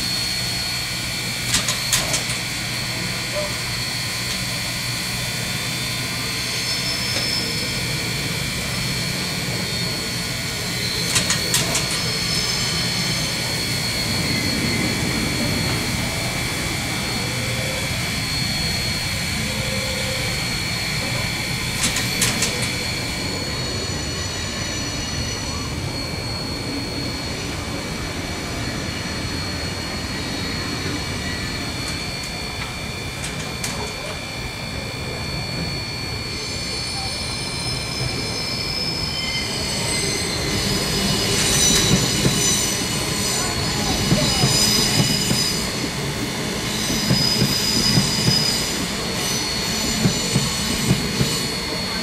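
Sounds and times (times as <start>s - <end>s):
steam hissing: 0.0s - 52.0s
turbo-generator whine: 0.0s - 52.0s.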